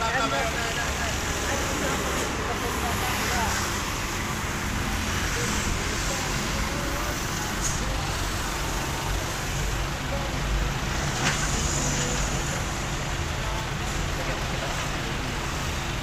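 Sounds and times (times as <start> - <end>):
faint voices: 0.0 - 16.0
vehicle road and engine rumble: 0.0 - 16.0.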